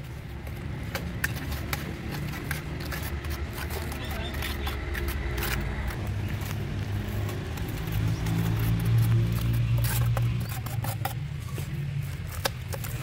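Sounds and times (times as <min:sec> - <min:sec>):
wet mortar slapping and scraping: 0:00.0 - 0:13.0.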